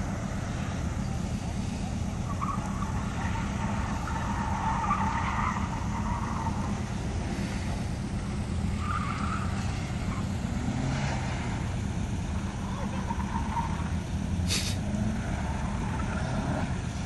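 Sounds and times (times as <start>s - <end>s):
distant car engine running hard: 0.0s - 17.0s
tires squealing: 0.0s - 17.0s.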